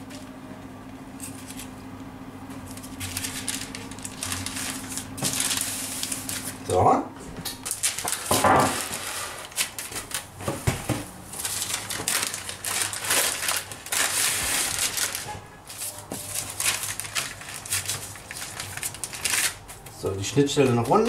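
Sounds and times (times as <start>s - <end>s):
baking paper rustling: 1.2s - 1.8s, 2.6s - 6.8s, 7.6s - 21.0s.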